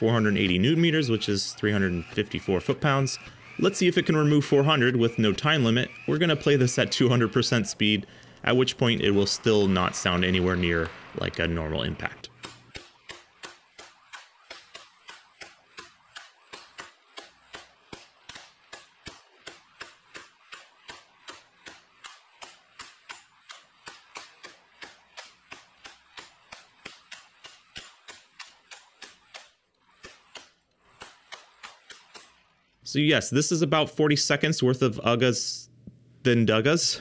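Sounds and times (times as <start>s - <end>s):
impact wrench hammering: 0.0s - 32.6s.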